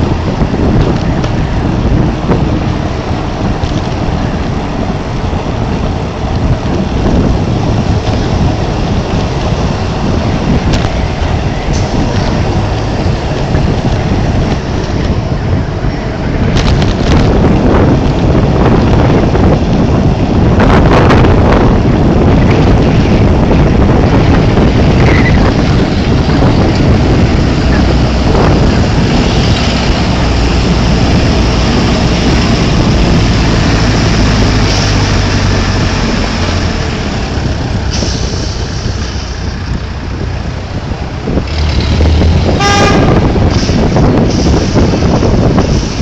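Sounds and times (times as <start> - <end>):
low engine hum: 0.0 - 46.0
moving vehicle noise: 0.0 - 46.0
wind buffeting microphone: 0.0 - 46.0.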